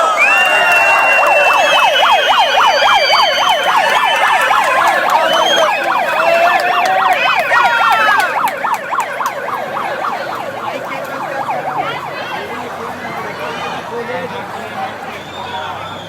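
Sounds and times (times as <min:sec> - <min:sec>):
siren yelping: 0:00.0 - 0:12.9
sirens wailing: 0:00.0 - 0:15.9.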